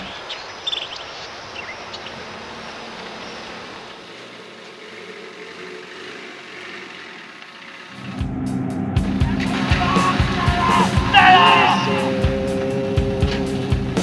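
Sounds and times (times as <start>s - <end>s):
armoured car engine running: 1.5s - 14.0s.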